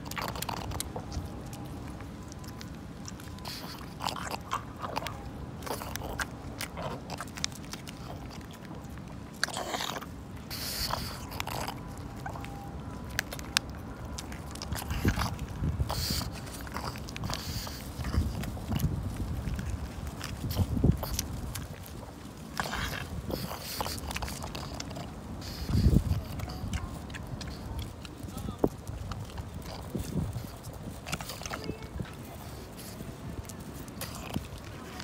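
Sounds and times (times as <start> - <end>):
dog crunching a treat: 0.0 - 35.0
dog mouth clicks: 0.0 - 35.0.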